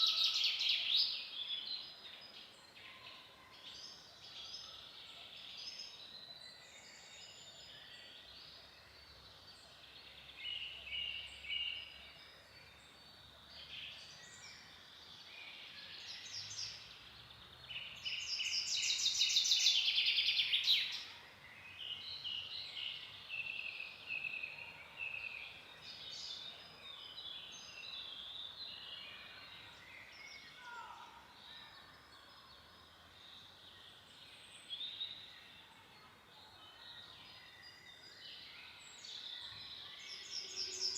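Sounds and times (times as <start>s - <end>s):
songbirds singing and calling: 0.0s - 40.9s.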